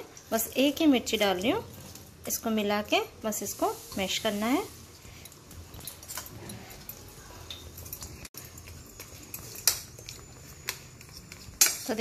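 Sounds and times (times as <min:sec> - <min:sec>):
spoon mashing pumpkin: 0:00.0 - 0:12.0.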